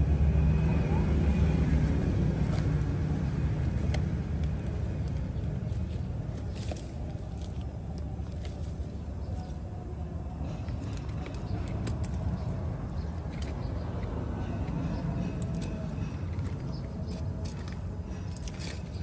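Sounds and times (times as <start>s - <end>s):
low engine-like rumble: 0.0s - 19.0s.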